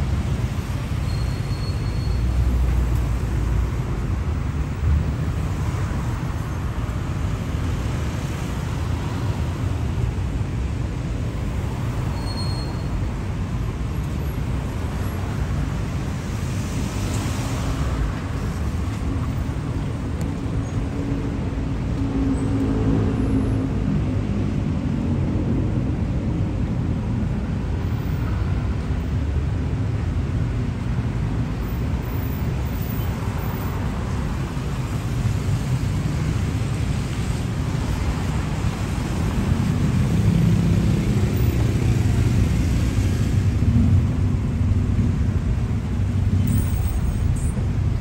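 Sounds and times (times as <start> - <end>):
road traffic rumble: 0.0 - 48.0.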